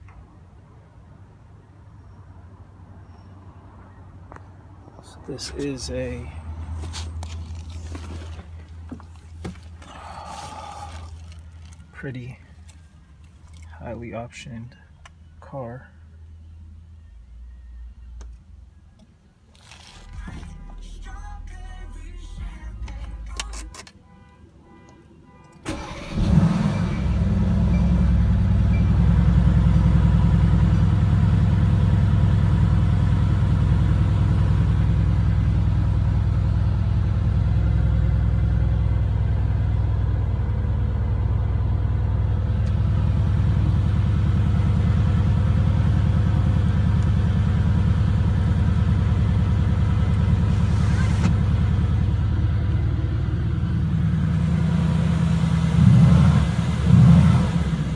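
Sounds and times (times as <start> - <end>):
car engine starting and idling: 4.9 - 24.0, 25.5 - 57.9.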